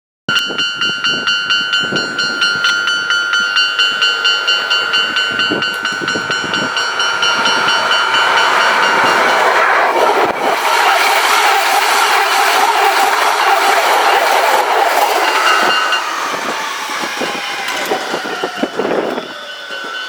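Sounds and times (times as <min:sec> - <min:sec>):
level crossing bell ringing: 0:00.3 - 0:16.8, 0:17.4 - 0:20.0
train passing: 0:00.3 - 0:20.0.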